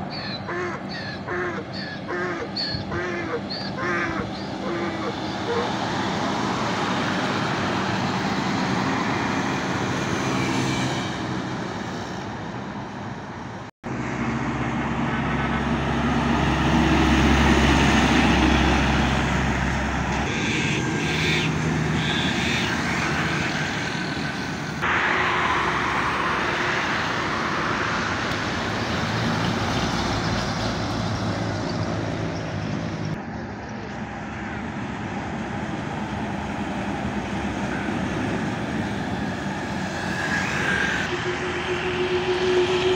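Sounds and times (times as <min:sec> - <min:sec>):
diesel trucks passing: 0:00.0 - 0:42.9
tyre and road noise: 0:00.0 - 0:42.9.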